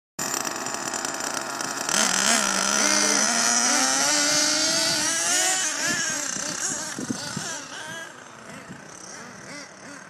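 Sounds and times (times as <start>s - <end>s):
high buzzing whine: 0.2s - 10.0s
nitro engine revving: 0.2s - 10.0s.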